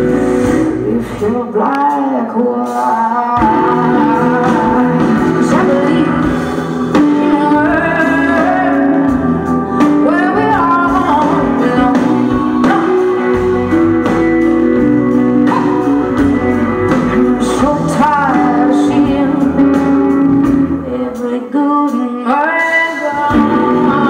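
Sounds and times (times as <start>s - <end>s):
live band playing: 0.0s - 24.0s
person singing: 0.0s - 24.0s.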